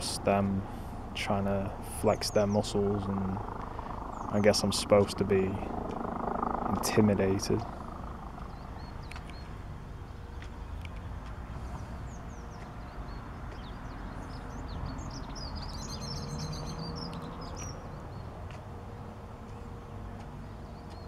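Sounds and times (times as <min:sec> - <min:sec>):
distant helicopter rumble: 0:00.0 - 0:21.0
small birds chirping: 0:00.0 - 0:21.0.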